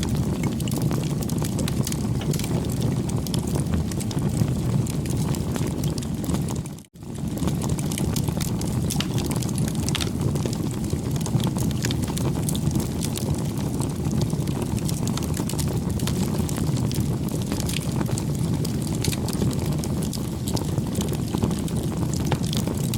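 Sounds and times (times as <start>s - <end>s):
campfire crackling and popping: 0.0s - 22.9s
low fire rumble: 0.0s - 22.9s.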